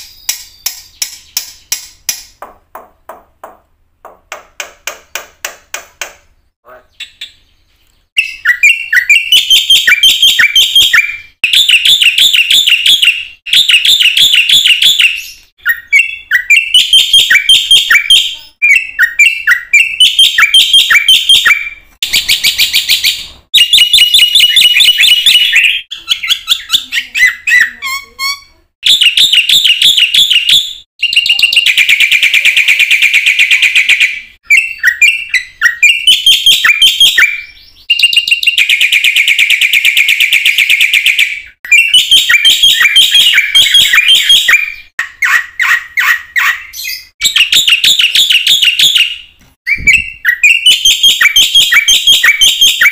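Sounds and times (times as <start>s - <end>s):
myna chattering and whistling song: 6.7s - 52.9s.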